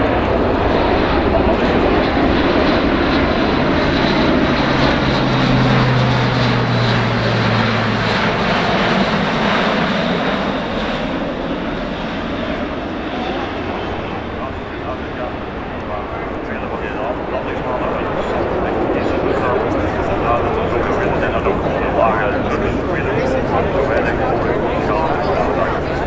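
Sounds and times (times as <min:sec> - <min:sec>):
low propeller hum: 0:00.0 - 0:26.0
turboprop aircraft passing by: 0:00.0 - 0:26.0.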